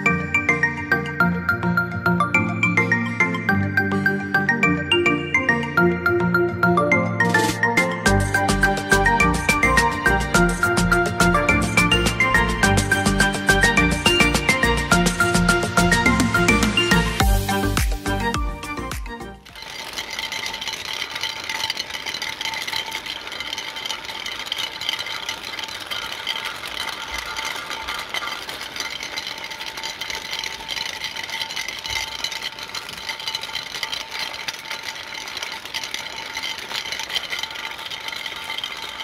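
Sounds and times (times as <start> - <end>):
roller rolling over concrete: 0.0 - 39.0
gear motor whining: 7.4 - 39.0.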